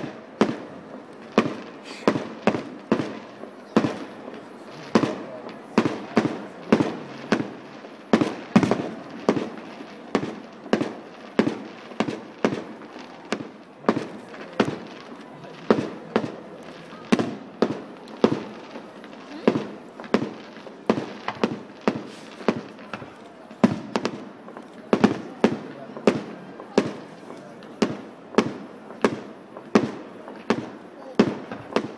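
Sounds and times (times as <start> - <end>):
fireworks bursting with bangs: 0.0 - 31.9.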